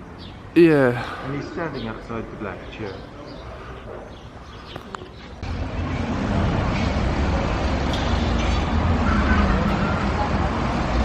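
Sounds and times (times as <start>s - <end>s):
quiet street ambience: 0.0s - 11.0s
road traffic rumble: 0.0s - 11.0s.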